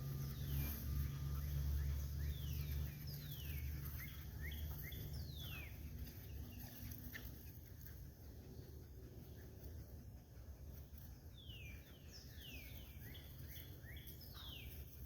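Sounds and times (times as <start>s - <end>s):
birds whistling and chirping: 0.0s - 9.9s, 10.7s - 15.0s.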